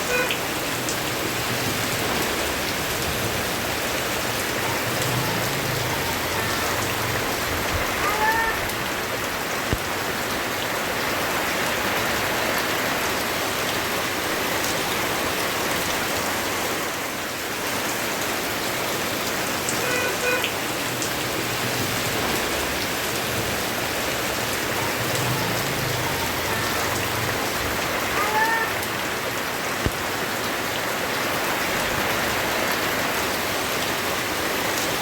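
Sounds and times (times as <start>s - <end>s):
rain falling on a surface: 0.0s - 35.0s.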